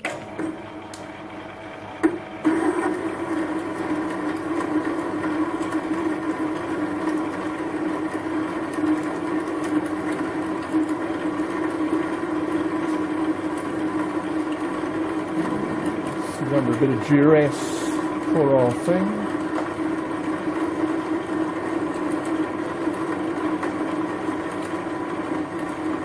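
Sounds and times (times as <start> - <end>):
lathe motor and gears humming: 0.0 - 26.0.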